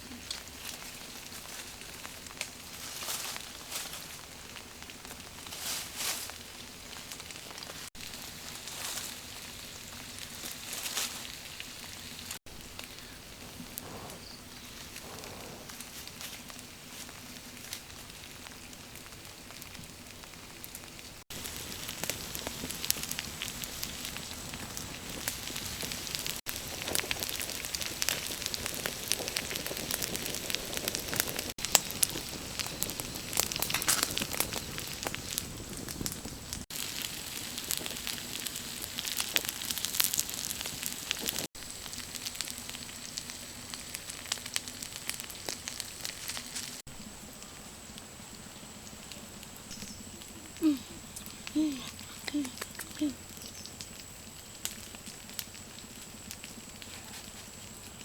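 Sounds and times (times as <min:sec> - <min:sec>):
fish sizzling on hot stone: 0:00.0 - 0:15.0, 0:15.7 - 0:58.0
wood fire crackling: 0:00.0 - 0:58.0.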